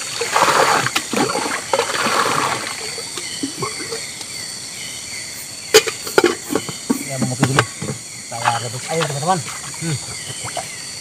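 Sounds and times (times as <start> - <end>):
water splashing and sloshing: 0.0 - 4.3, 5.7 - 10.8
forest insects droning: 0.0 - 11.0.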